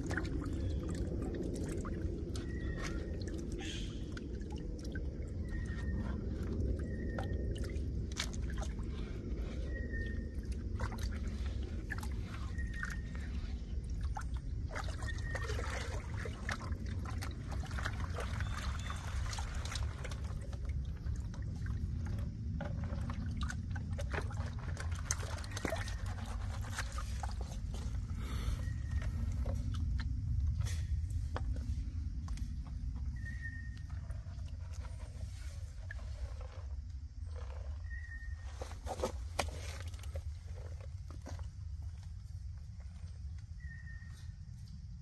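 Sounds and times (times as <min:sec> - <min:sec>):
steady low rumble: 0:00.0 - 0:38.4
water sloshing and trickling: 0:00.0 - 0:45.0.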